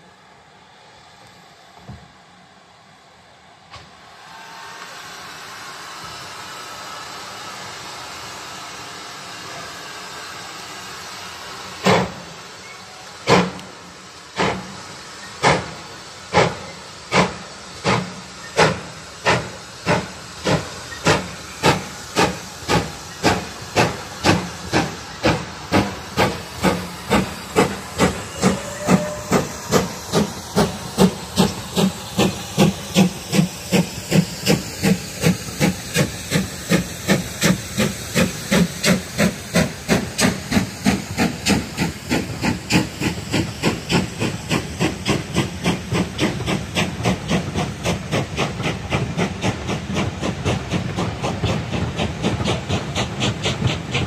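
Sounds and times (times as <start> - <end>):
steam hissing: 3.8 - 54.0
steam locomotive exhaust chuffs: 3.8 - 54.0.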